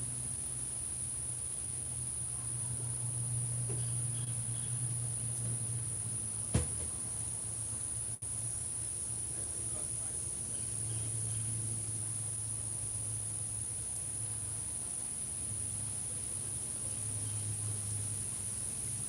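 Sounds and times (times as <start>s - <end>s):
low steady hum: 0.0s - 18.8s
high-pitched insect song: 0.0s - 19.0s.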